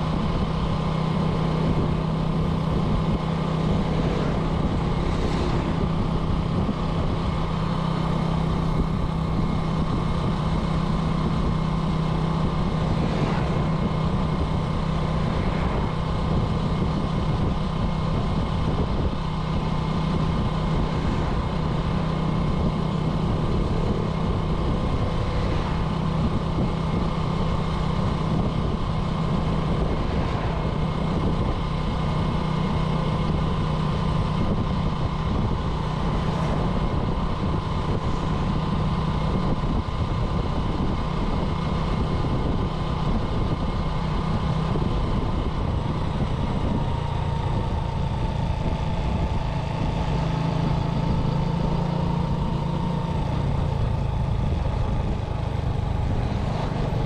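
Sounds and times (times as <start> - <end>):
road and wind noise: 0.0 - 57.0
small motorcycle engine running: 0.0 - 57.0.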